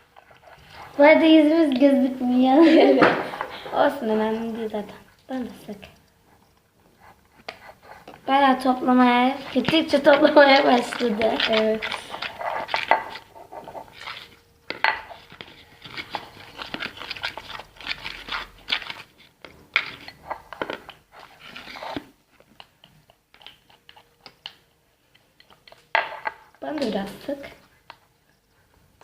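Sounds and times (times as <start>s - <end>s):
spoons stirring sticky slime: 0.0s - 28.7s.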